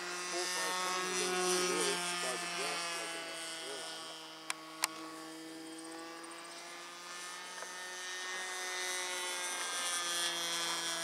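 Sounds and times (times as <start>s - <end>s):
model airplane motor drone: 0.0s - 11.0s.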